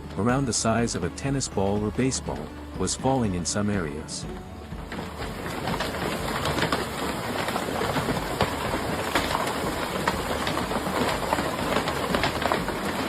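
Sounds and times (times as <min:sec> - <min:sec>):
hailstones pounding: 0:00.0 - 0:13.0.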